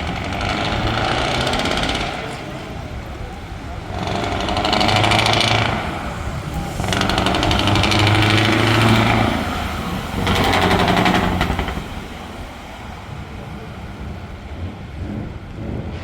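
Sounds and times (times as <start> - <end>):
truck engine revving hard: 0.0 - 13.2.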